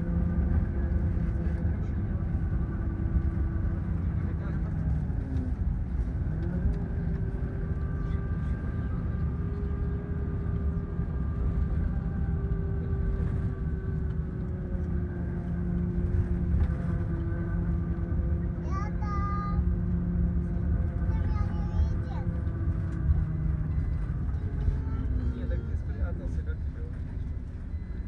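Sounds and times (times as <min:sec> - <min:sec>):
bus engine drone: 0:00.0 - 0:28.0
road noise: 0:00.0 - 0:28.0.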